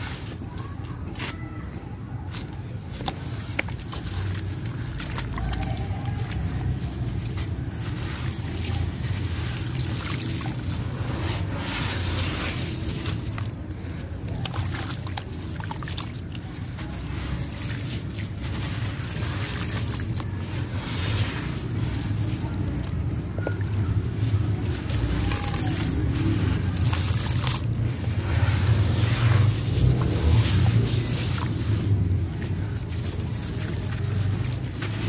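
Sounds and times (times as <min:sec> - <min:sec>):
grit crackling and trickling: 0:02.2 - 0:35.0
water sloshing in a basin: 0:02.3 - 0:35.0.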